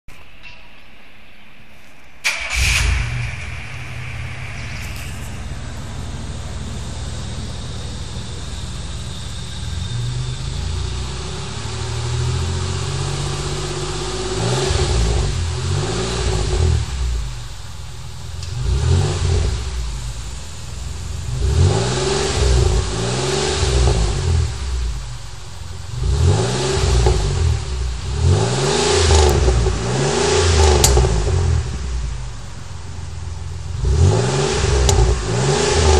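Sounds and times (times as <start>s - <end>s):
car engine idling and revving: 2.2s - 35.9s.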